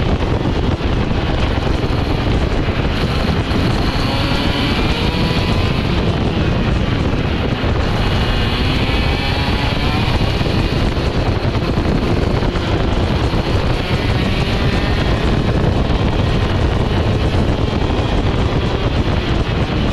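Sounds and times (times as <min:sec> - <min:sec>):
kart engine at speed: 0:00.0 - 0:19.9
wind buffeting microphone: 0:00.0 - 0:19.9.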